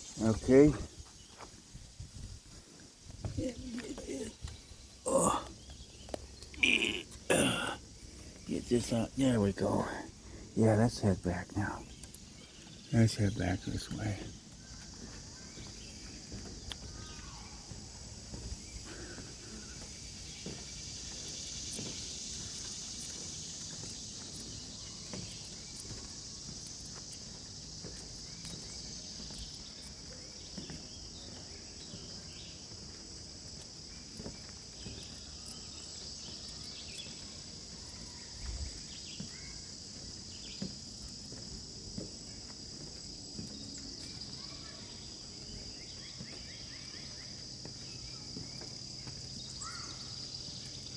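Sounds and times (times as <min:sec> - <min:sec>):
insect chorus: 0:00.0 - 0:50.9
short insect chirps: 0:00.0 - 0:50.9
soft footsteps on trail: 0:00.0 - 0:50.9.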